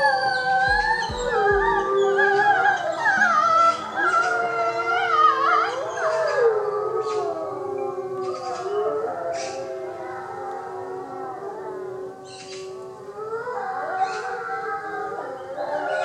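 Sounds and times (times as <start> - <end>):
wolves howling in chorus: 0.0 - 16.0.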